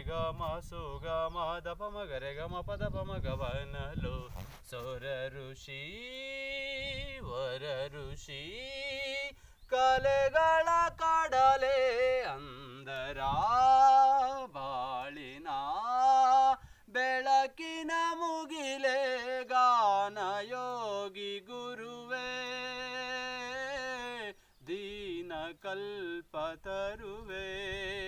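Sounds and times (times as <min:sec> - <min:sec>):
man singing long held notes: 0:00.0 - 0:28.0.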